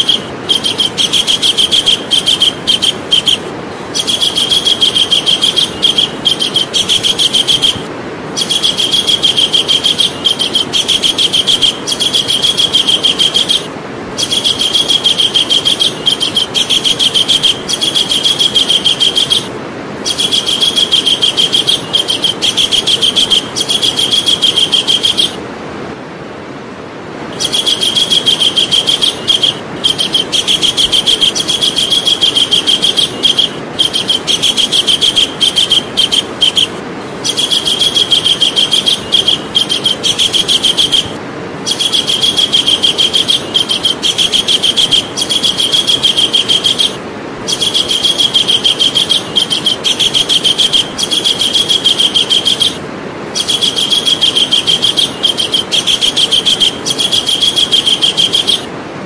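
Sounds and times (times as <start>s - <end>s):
kingfisher rattling call: 0.0s - 25.4s, 27.3s - 58.7s
steady background hiss: 0.0s - 59.0s.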